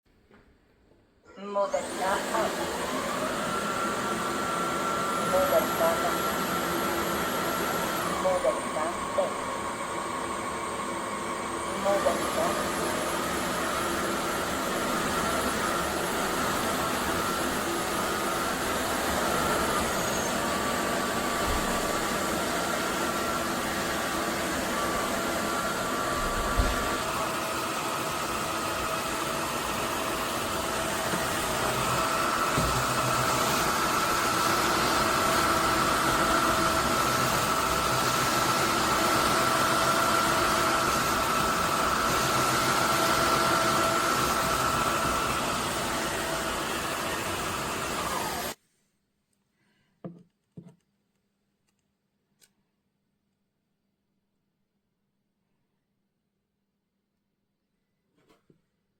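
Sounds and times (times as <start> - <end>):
vacuum mop running: 1.3 - 48.6.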